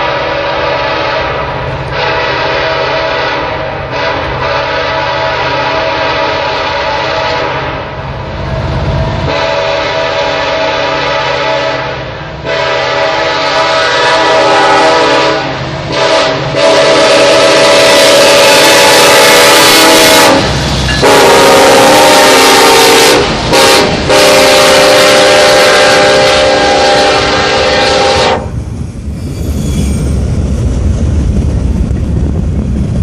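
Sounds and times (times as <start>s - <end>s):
locomotive air horn blasts: 0.0s - 8.0s, 9.3s - 28.5s.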